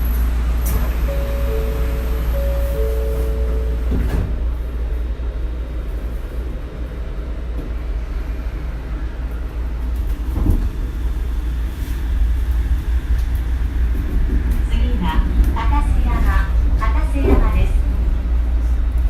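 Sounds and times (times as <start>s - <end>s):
monorail car low rumble: 0.0s - 19.0s.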